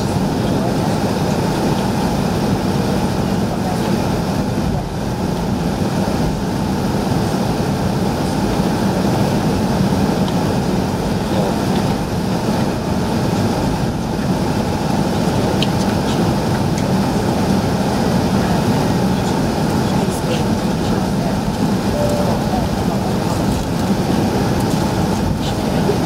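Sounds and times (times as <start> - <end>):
jet engines rumbling in cabin: 0.0 - 26.0.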